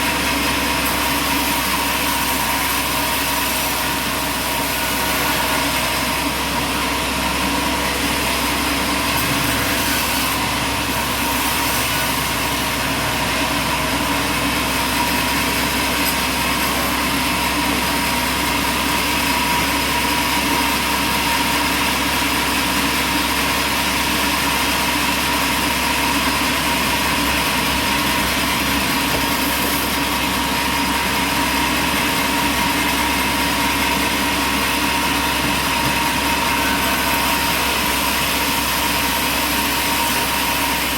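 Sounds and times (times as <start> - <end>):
machinery droning and whining: 0.0 - 40.9.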